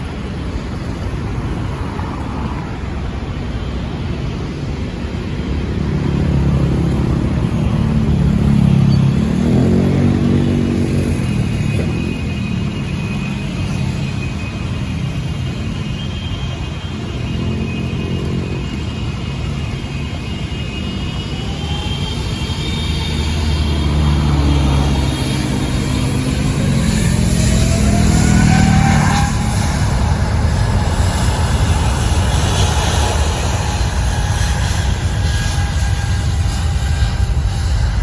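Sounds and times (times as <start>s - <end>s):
engine and traffic noise: 0.0s - 38.0s
whine rising in pitch: 4.5s - 38.0s.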